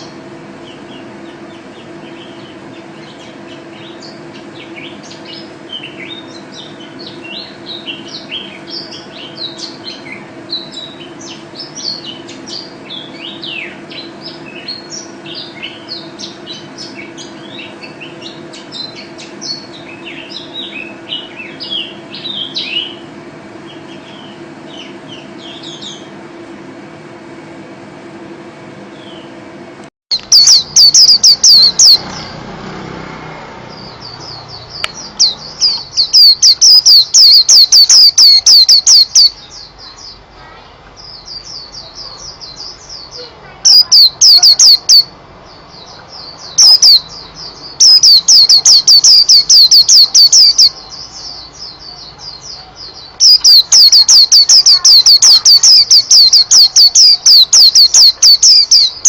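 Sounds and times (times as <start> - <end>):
bird singing high chirps and trills: 0.0 - 26.1, 28.9 - 29.4, 30.1 - 32.3, 33.7 - 59.0
steady low hum: 0.0 - 32.7, 33.4 - 59.0.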